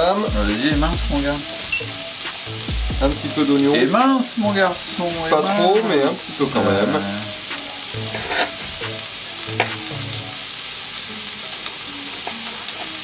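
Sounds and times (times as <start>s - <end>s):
burger patties sizzling on griddle: 0.0s - 13.0s.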